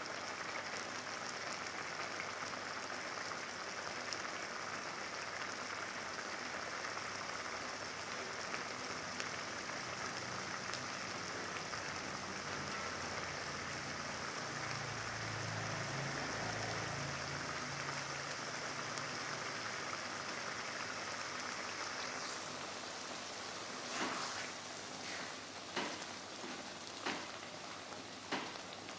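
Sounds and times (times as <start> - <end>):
sambal sizzling in oil: 0.0 - 28.9.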